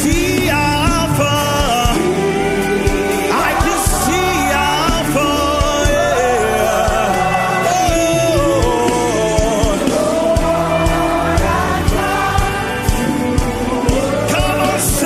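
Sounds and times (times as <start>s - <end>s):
gospel band playing: 0.0s - 15.0s
person singing: 0.0s - 15.0s.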